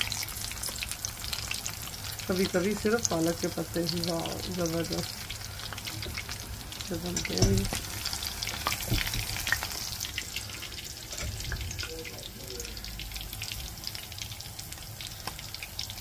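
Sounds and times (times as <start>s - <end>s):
leaves frying in hot oil: 0.0s - 16.0s.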